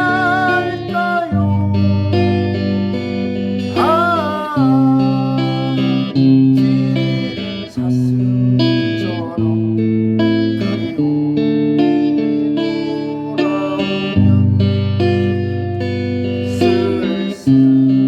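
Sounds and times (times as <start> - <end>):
guitar playing slow melody: 0.0 - 18.0.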